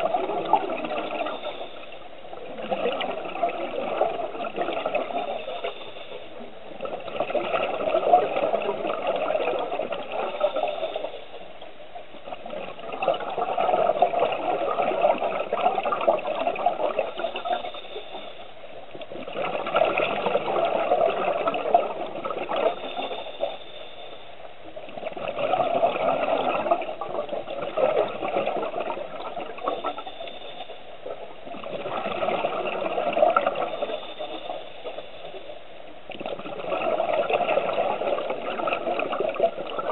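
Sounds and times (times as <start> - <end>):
underwater exhaust bubbles: 0.0 - 39.9.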